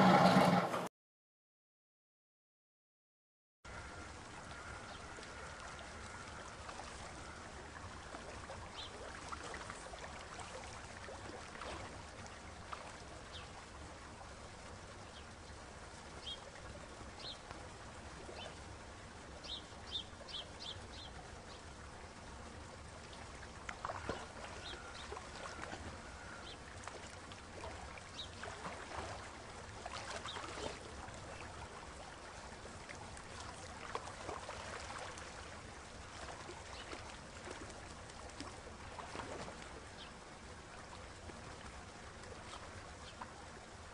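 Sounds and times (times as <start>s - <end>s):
faint water trickling: 3.7s - 43.9s.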